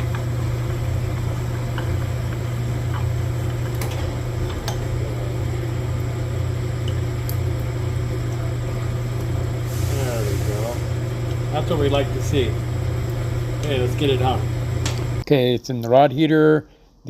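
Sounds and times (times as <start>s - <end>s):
honing machine motor hum: 0.0s - 15.2s.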